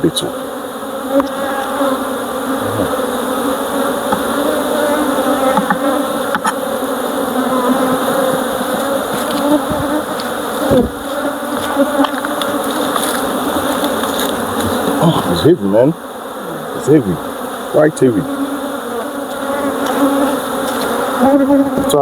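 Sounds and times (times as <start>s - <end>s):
bee passing close by: 0.0s - 22.0s
honeybees buzzing: 0.0s - 22.0s.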